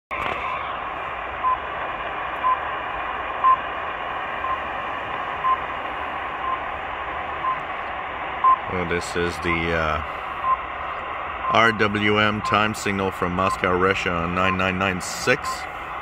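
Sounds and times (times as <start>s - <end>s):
shortwave static hiss: 0.1s - 16.0s.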